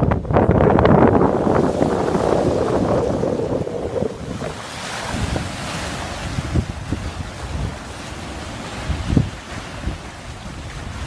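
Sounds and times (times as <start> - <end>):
wind buffeting microphone: 0.0 - 11.0
waves breaking on a pebble beach: 0.9 - 11.0.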